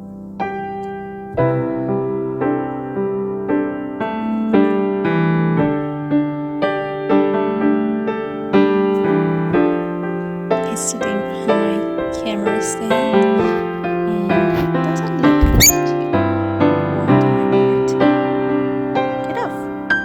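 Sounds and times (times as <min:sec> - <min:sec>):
calm piano melody: 0:00.0 - 0:20.0.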